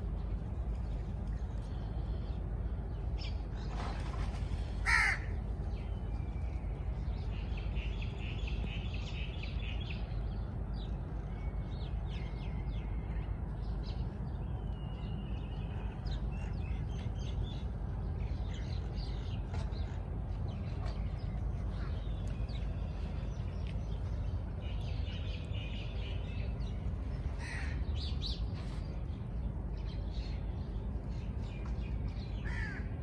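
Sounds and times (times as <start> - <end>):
birds chirping and twittering: 0.0 - 33.0
steady low rumble: 0.0 - 33.0.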